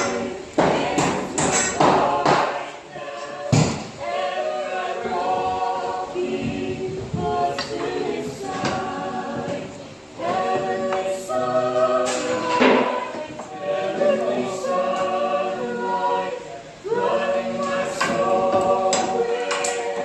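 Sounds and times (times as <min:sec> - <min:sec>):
group singing a cappella hymn: 0:00.0 - 0:20.0.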